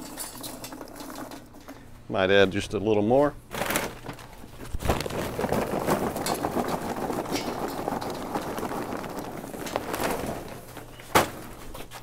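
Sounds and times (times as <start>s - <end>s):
charcoal briquettes clattering on metal: 0.0s - 1.9s, 3.5s - 12.0s.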